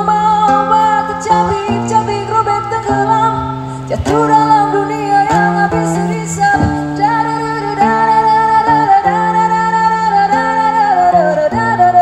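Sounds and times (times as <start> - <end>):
plucked acoustic guitar: 0.0 - 12.0
woman singing long notes: 0.0 - 12.0.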